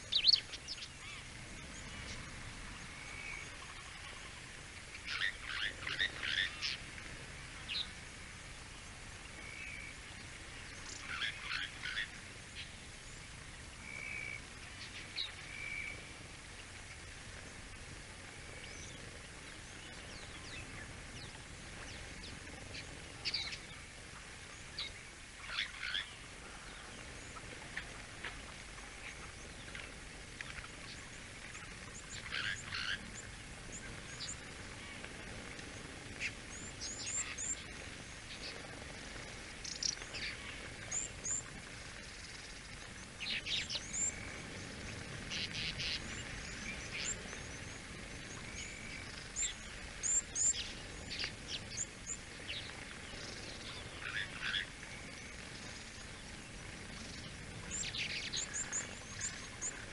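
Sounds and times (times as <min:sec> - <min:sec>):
background hiss: 0:00.0 - 0:59.9
birds chirping: 0:00.0 - 0:59.9.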